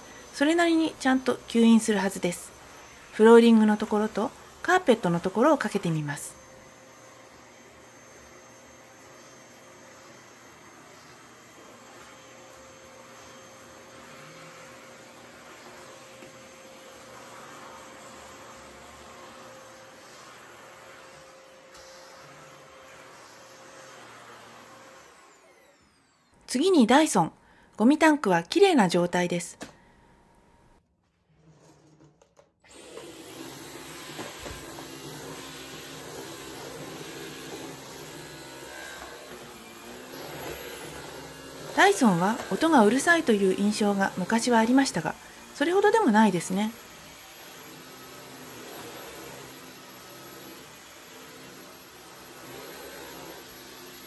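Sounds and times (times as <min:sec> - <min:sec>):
vacuum cleaner running: 0:00.0 - 0:30.0, 0:32.7 - 0:54.0.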